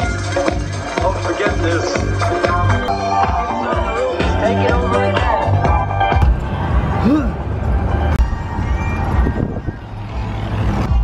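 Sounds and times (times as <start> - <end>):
music with heavy bass line: 0.0 - 11.0.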